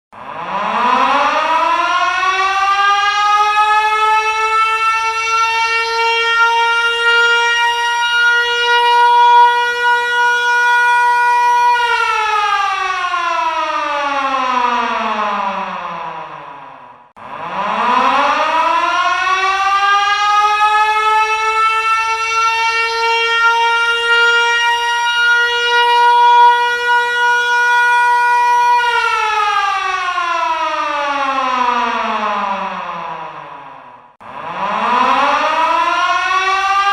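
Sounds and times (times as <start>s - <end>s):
siren: 0.1s - 36.9s.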